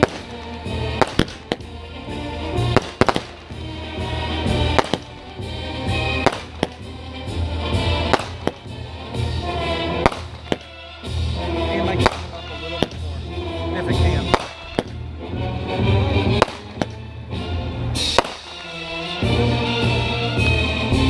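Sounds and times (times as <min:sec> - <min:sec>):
fireworks bangs and cracks: 0:00.0 - 0:13.3, 0:13.9 - 0:15.1, 0:16.2 - 0:17.0, 0:18.0 - 0:19.6
music playing: 0:00.0 - 0:21.0.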